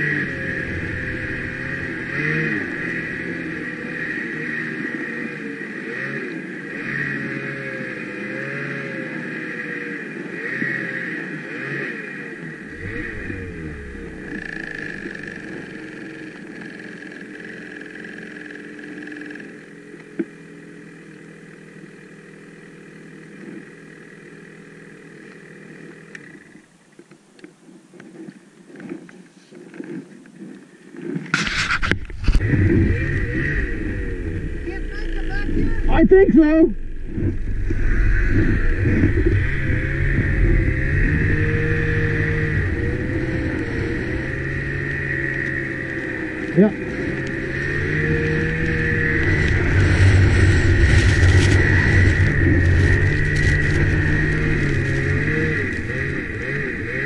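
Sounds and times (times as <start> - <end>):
snowmobile engine running: 0.0 - 26.6, 31.0 - 57.0.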